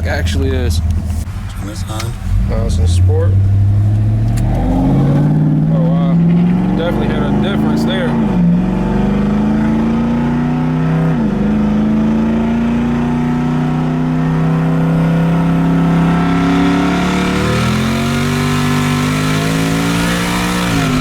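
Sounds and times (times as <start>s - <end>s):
truck engine accelerating hard: 0.0s - 21.0s.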